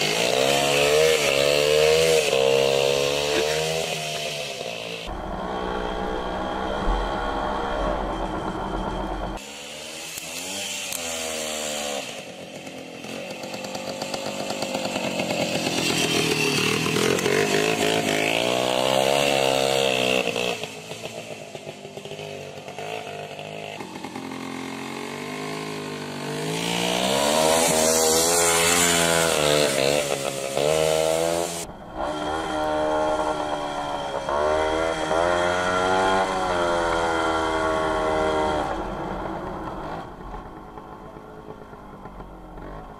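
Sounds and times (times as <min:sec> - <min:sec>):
two-stroke motorcycle engine revving: 0:00.0 - 0:42.9.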